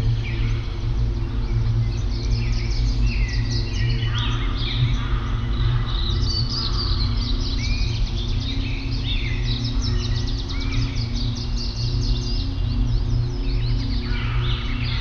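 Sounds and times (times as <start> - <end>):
low drone: 0.0 - 15.0
songbirds chirping and whistling: 0.0 - 15.0.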